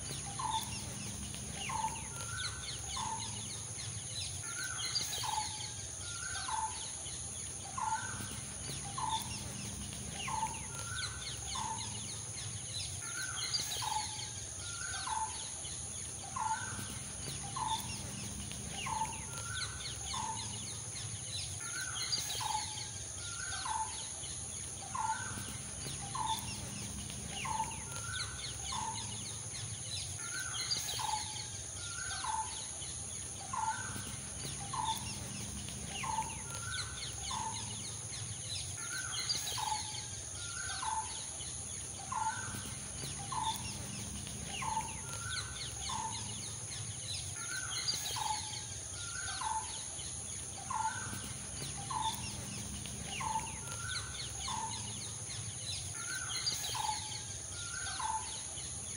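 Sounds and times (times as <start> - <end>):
chirping bird calls: 0.0 - 58.8
constant high hiss: 0.0 - 58.9.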